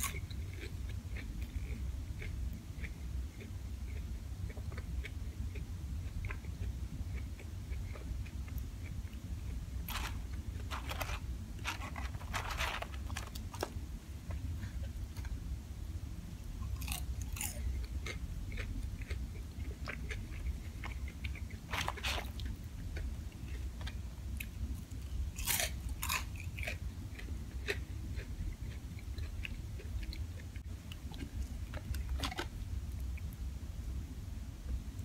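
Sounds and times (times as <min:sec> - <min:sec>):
crunching food: 0:00.0 - 0:15.4, 0:16.6 - 0:33.4
person chewing food: 0:00.0 - 0:15.4, 0:16.6 - 0:33.4
steady low hum: 0:00.0 - 0:35.0.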